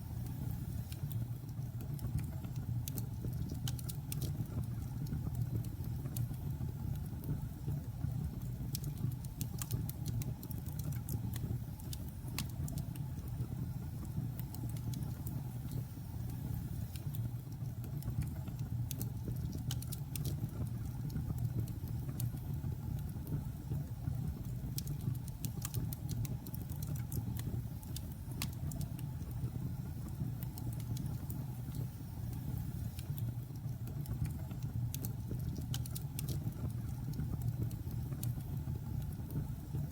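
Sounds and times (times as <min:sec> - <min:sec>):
fire crackling and popping: 0:00.1 - 0:39.9.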